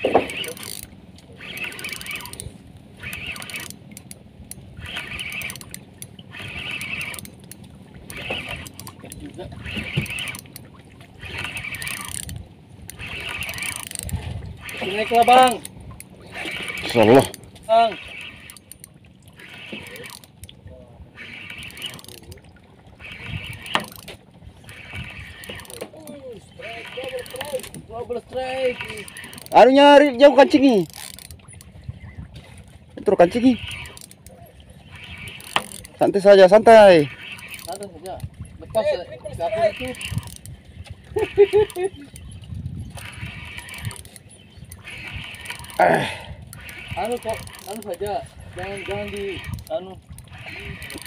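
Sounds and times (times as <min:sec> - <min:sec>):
spinning reel whirring: 0:00.0 - 0:20.5, 0:21.1 - 0:32.1, 0:33.0 - 0:51.0.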